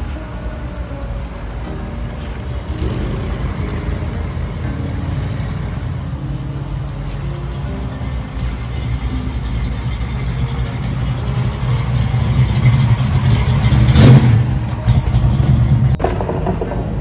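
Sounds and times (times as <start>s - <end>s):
car engines driving past: 1.6s - 17.0s.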